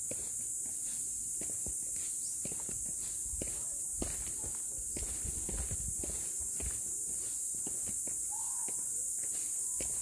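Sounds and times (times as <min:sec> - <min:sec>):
footsteps on concrete stairs: 0:00.0 - 0:10.0
steady high-pitched hiss: 0:00.0 - 0:10.0.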